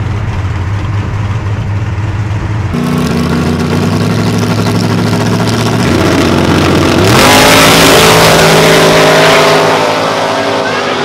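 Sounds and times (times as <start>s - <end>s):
drag racing car engines revving: 0.0s - 11.0s.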